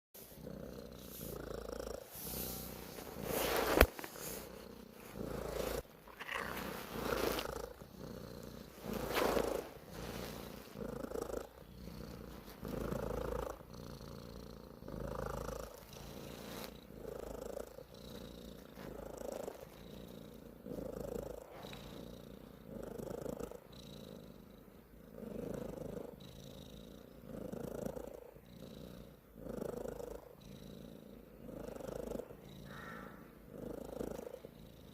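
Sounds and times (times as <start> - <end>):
cat purring: 0.2 - 34.9.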